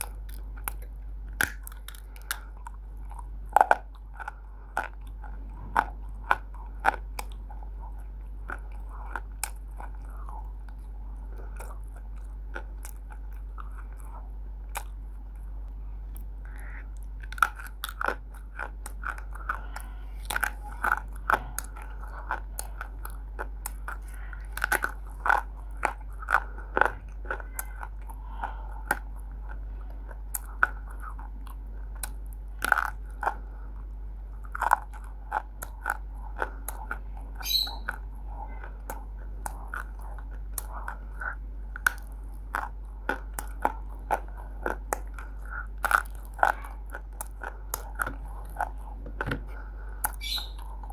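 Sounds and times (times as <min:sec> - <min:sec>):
crunchy chewing of clay: 0:00.0 - 0:50.9.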